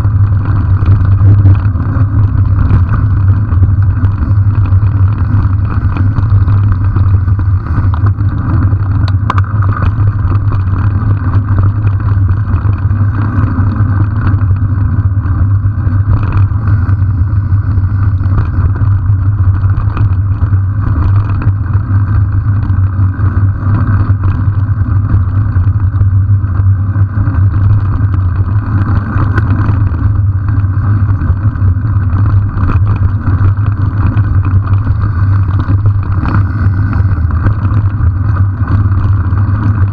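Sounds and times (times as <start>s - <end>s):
bicycle rumble on dirt track: 0.0s - 39.9s.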